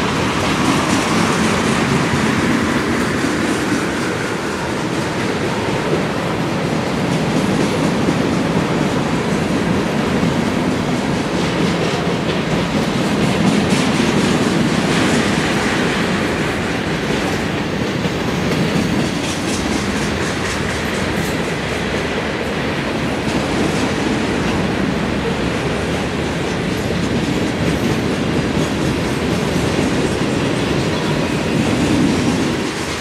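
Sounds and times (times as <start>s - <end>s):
freight train wheels rumbling: 0.0s - 33.0s
train cars clickety-clack: 0.0s - 33.0s.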